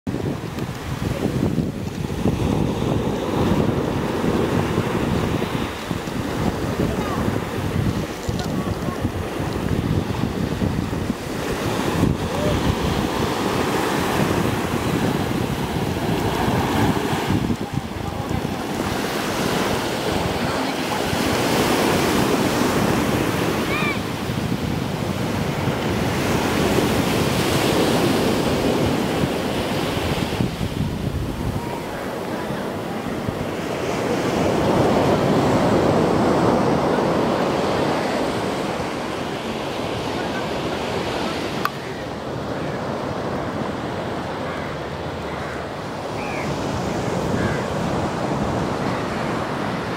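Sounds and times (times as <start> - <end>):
sea waves breaking on beach: 0.1 - 49.9
wind rumbling on microphone: 0.1 - 49.9.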